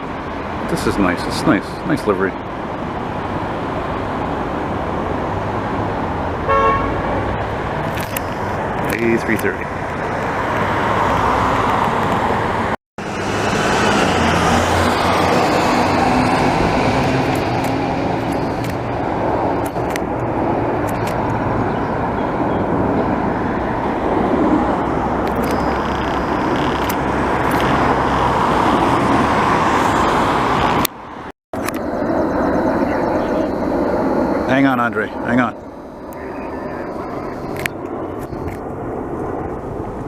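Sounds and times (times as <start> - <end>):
passing jet airliner: 0.0 - 40.0
road traffic roar: 0.0 - 40.0.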